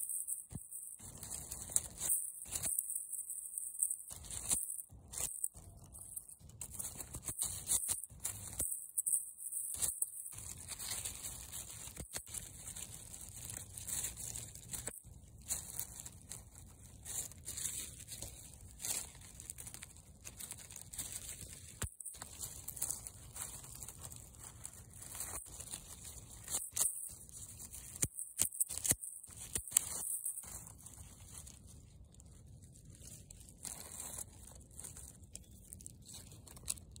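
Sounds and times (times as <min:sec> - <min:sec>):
fingers digging through soil and leaves: 0:00.0 - 0:37.0.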